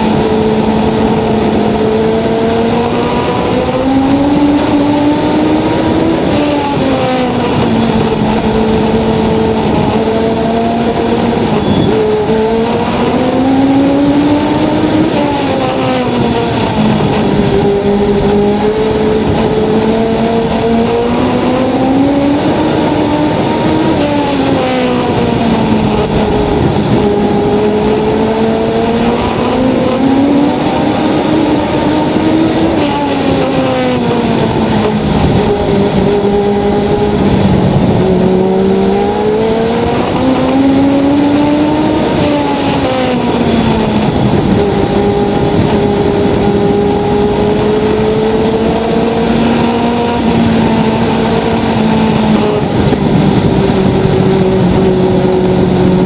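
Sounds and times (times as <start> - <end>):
racing car engine accelerating: 0.0 - 56.0.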